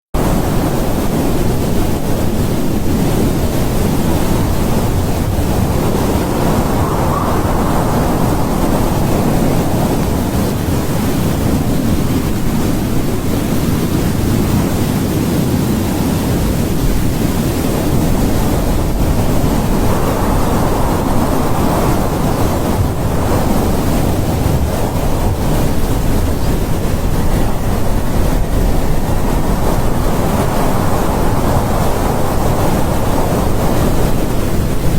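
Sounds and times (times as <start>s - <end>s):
strong wind blowing: 0.1s - 34.9s.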